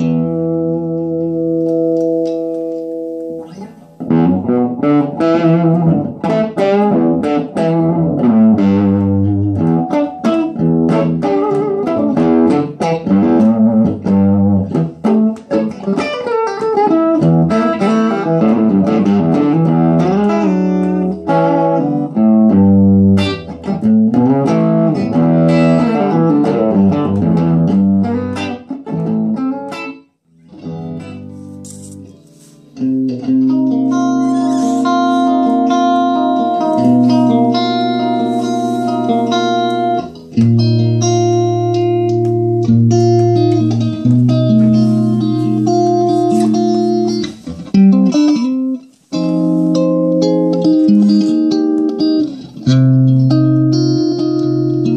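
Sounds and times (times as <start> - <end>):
electric guitar through tube amplifier: 0.0 - 32.2, 32.8 - 54.9.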